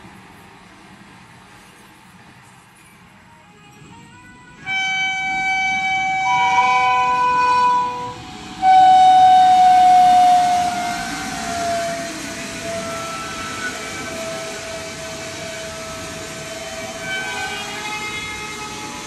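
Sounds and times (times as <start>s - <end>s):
train rumbling on track: 0.0s - 19.0s
train horn blasts: 3.2s - 19.0s.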